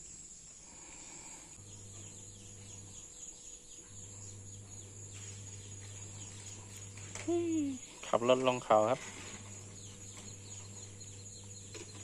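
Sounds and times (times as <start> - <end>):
faint chirps: 0.0 - 12.0
high insect drone: 0.0 - 12.0
low hum: 0.4 - 8.3, 9.0 - 12.0.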